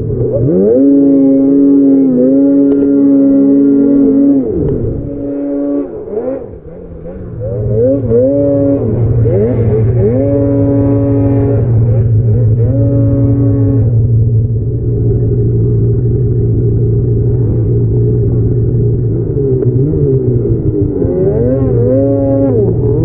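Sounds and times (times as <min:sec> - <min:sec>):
snowmobile engines revving: 0:00.0 - 0:23.0.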